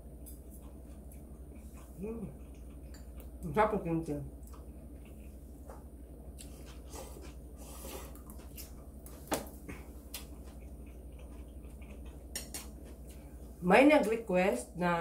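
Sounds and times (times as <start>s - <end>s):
steady low hum: 0.0s - 15.0s
chewing: 0.1s - 3.5s, 4.4s - 13.5s.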